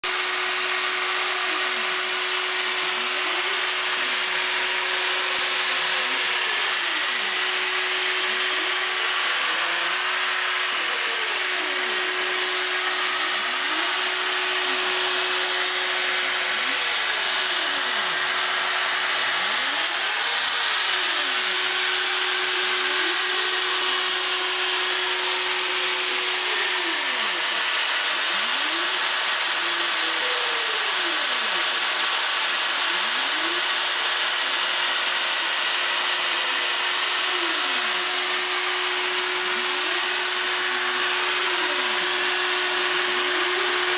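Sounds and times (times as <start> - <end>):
axis motor whine: 0.0 - 43.9
cnc router running: 0.0 - 43.9.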